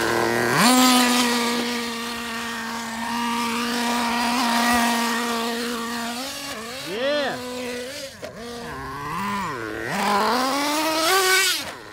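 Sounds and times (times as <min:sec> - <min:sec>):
small nitro engine revving: 0:00.0 - 0:11.9.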